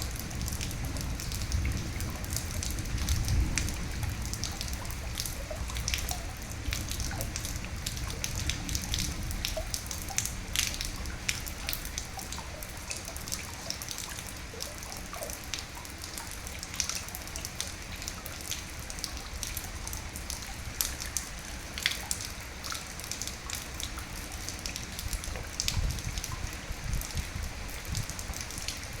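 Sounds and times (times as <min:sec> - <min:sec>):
raindrops striking sharply: 0:00.0 - 0:29.0
steady rain: 0:00.0 - 0:29.0.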